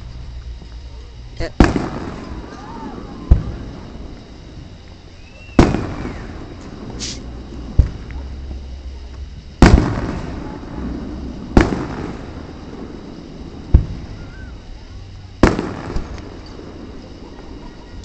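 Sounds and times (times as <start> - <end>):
rumbling echo: 0.0 - 17.7
fireworks booming: 0.0 - 18.0.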